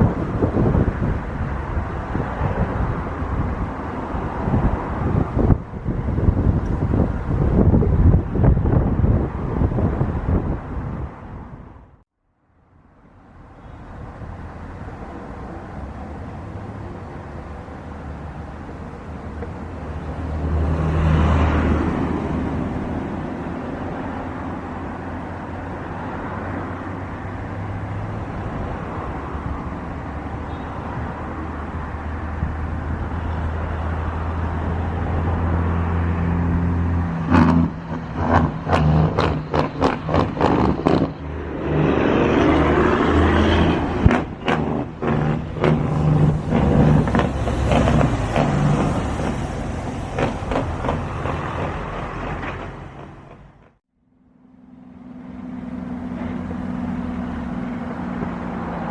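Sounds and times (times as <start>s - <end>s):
road vehicle passing: 0.0s - 58.9s.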